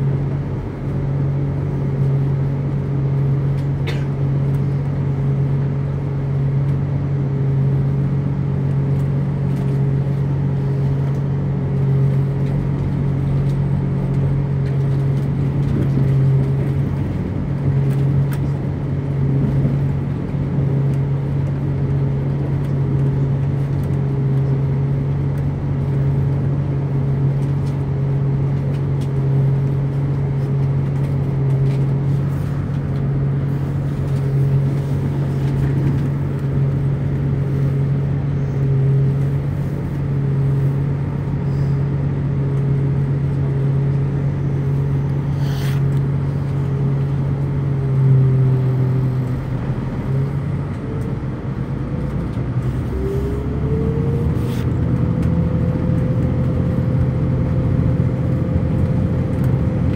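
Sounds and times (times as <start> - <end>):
train diesel engine drone: 0.0 - 59.9.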